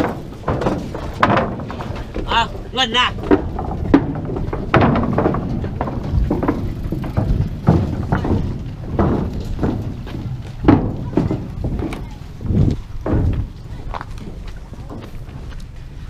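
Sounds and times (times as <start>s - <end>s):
knocks and thumps: 0.0s - 15.8s.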